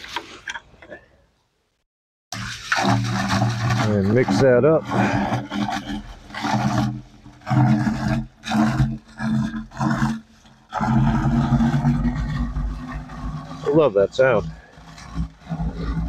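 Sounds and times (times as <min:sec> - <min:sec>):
water falling down well shaft: 0:02.3 - 0:16.0.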